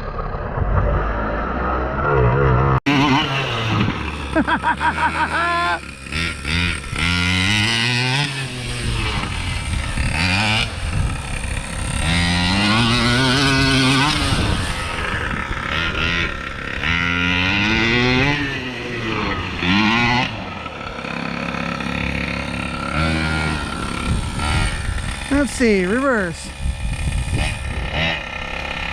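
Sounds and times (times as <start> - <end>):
two-stroke engine revving: 0.0 - 28.9.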